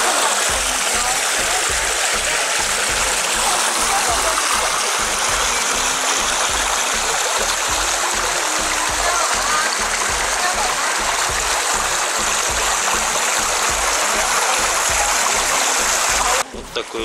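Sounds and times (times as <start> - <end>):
water rushing along a channel: 0.0 - 17.0.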